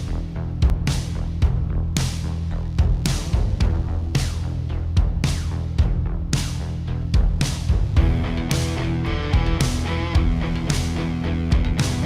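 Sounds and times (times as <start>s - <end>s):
music with heavy bass beat: 0.0s - 12.0s.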